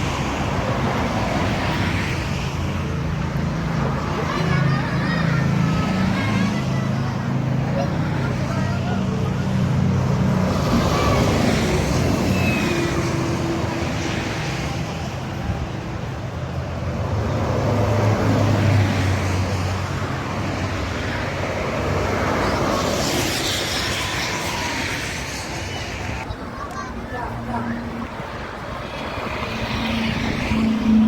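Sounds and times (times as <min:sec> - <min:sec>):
heavy vehicle engines droning: 0:00.0 - 0:31.0
traffic passing: 0:00.0 - 0:31.0.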